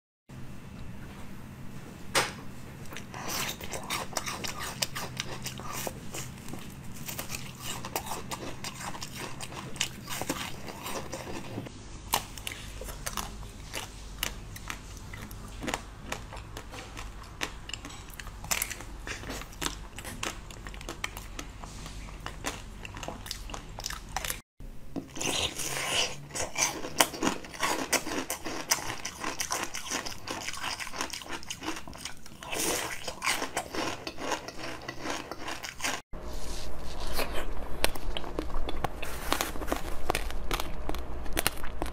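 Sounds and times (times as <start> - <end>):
crunching frozen treats: 3.1 - 21.5, 25.1 - 41.9.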